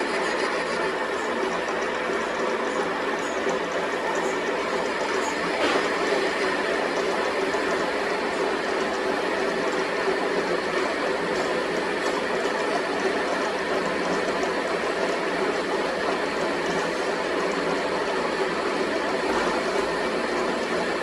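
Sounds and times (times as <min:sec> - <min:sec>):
machine running steadily: 0:00.0 - 0:21.0.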